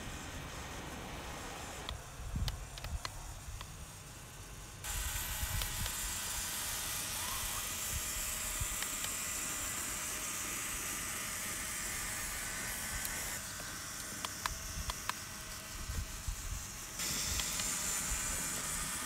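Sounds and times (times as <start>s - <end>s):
small electric motor whirring: 0.0s - 19.0s.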